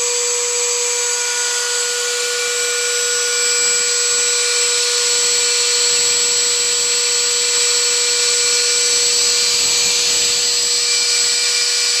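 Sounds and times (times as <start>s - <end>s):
wood router whining: 0.0s - 12.0s.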